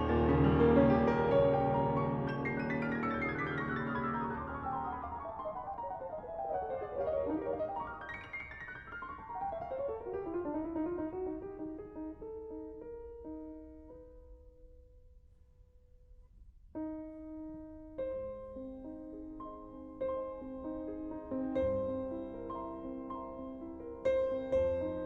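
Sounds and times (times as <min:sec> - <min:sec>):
piano music: 0:00.0 - 0:14.9, 0:16.8 - 0:25.0.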